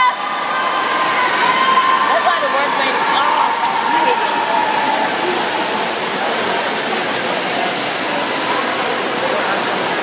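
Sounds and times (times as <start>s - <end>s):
din of spectators' voices: 0.0s - 10.0s
swimmers splashing: 0.0s - 10.0s.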